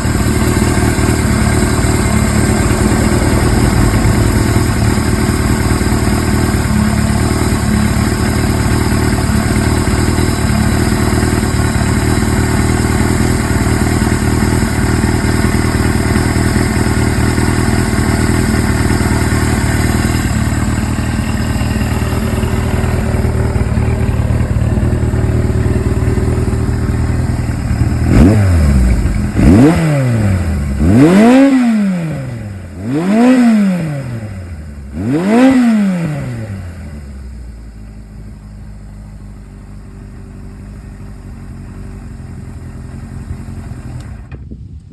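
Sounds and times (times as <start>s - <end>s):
motorcycle engine revving: 0.0s - 38.0s
motorcycle engine idling: 0.0s - 44.9s.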